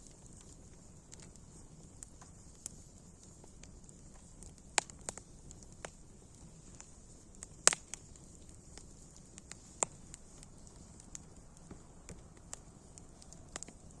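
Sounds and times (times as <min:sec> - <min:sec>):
campfire crackling: 0:00.0 - 0:14.0
faint steady hiss: 0:00.0 - 0:14.0.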